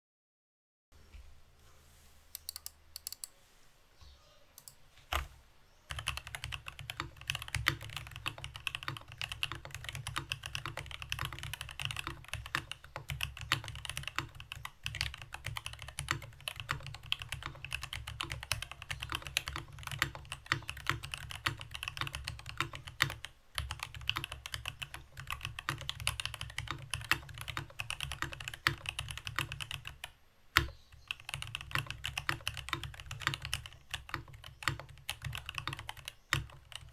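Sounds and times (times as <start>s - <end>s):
typing on mechanical keyboard: 5.9s - 36.9s.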